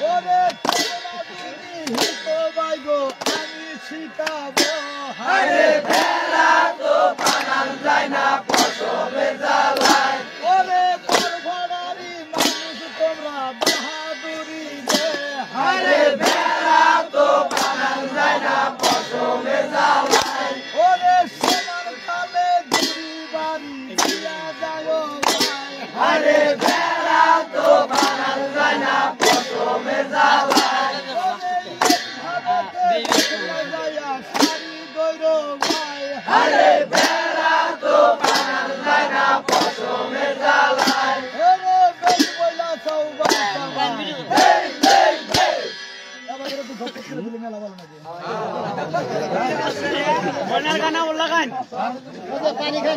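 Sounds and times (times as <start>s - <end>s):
men singing a chant: 0.0s - 45.8s.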